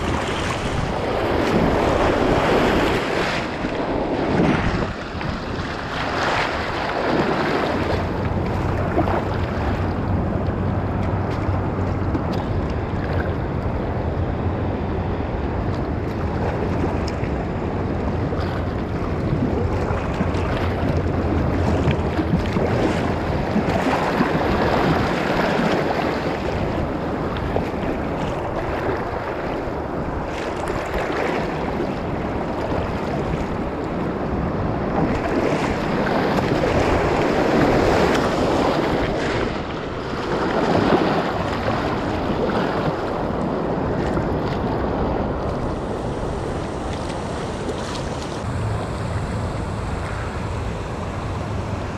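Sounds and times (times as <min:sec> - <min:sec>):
paddle strokes splashing: 0:00.0 - 0:13.9, 0:15.4 - 0:51.9
whitewater rushing and splashing: 0:00.0 - 0:51.9
wind buffeting microphone: 0:00.0 - 0:51.9.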